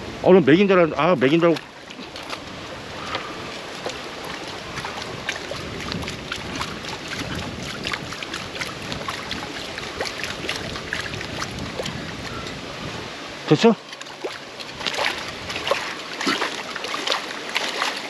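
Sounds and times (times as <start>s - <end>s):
splashing of wading people: 0.0s - 18.0s
stream water rushing: 0.0s - 18.0s.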